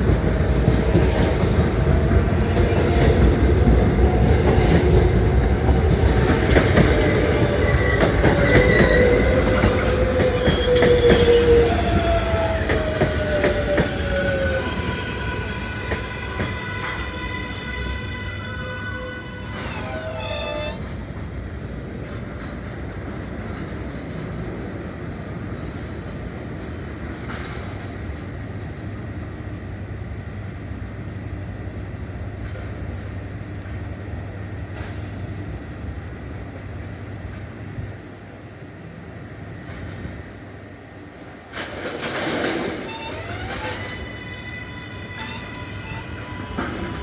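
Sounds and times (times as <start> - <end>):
train electric motor whine: 0.0 - 25.9, 26.5 - 47.0
train wheels rumbling on rail: 0.0 - 47.0.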